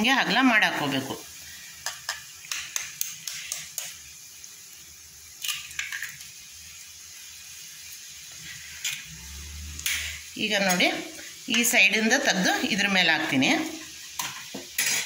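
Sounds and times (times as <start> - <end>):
food frying in pan: 0.0 - 15.0.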